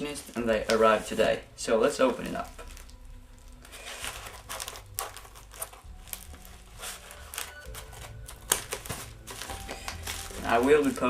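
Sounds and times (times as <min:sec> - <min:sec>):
cardboard package rustling: 0:00.0 - 0:11.0.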